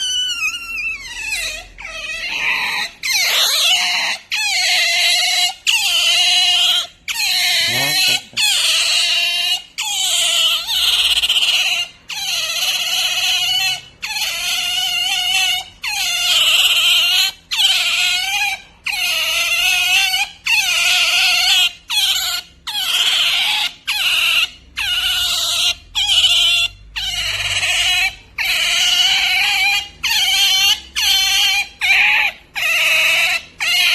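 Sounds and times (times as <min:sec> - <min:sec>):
otter squealing: 0:00.0 - 0:33.9.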